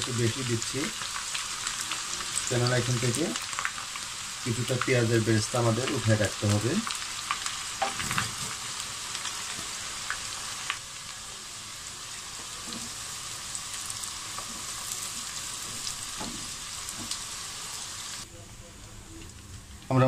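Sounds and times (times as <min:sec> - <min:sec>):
onions sizzling in oil: 0:00.0 - 0:18.3.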